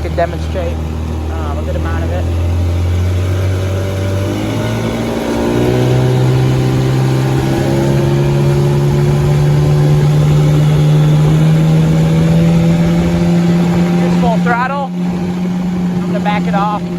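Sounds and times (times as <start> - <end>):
outboard motor accelerating: 0.0 - 16.9.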